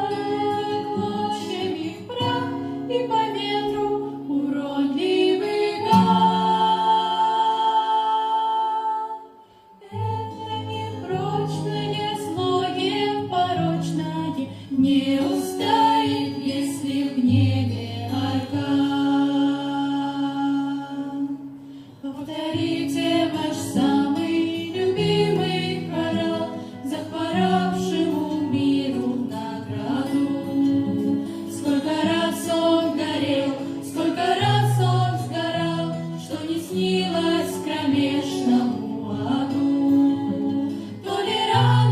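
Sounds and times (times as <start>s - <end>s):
vocal ensemble singing in harmony: 0.0s - 41.9s.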